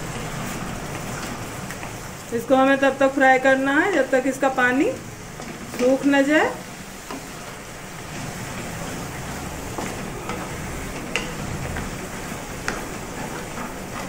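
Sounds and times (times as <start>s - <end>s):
apple sizzling in fat: 0.0s - 14.0s.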